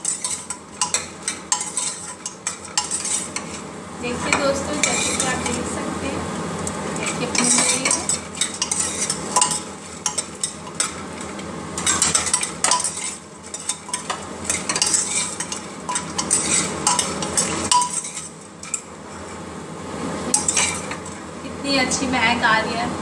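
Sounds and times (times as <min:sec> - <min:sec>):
spoon scraping metal pot: 0:00.0 - 0:03.7, 0:04.3 - 0:05.7, 0:07.0 - 0:19.4, 0:20.3 - 0:21.2
food sizzling in oil: 0:00.0 - 0:22.4.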